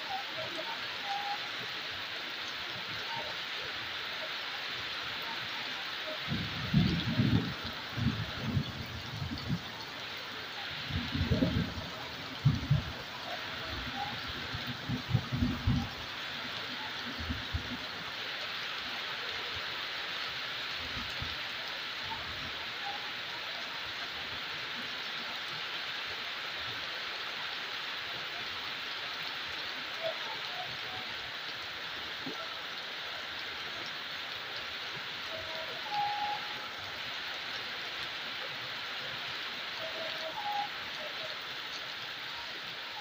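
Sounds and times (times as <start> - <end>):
heavy rain on road and roofs: 0.0 - 43.0.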